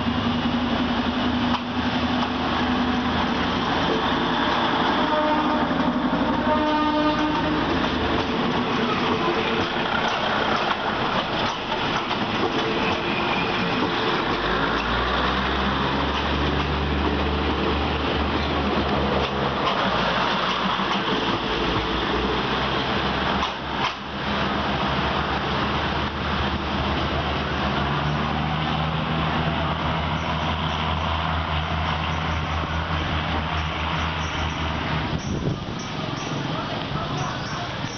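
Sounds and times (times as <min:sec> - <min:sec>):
deep diesel engine drone: 0:00.0 - 0:37.9
train wheels rolling on rails: 0:00.0 - 0:37.9.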